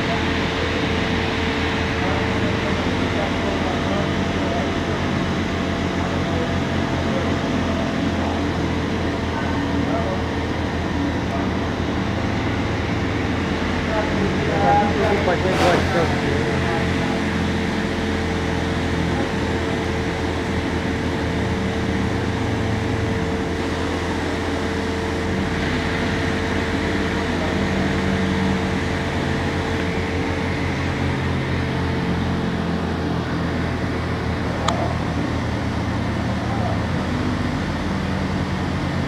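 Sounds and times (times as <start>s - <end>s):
constant mid-pitched tone: 0.0s - 39.0s
low machinery hum: 0.0s - 39.0s.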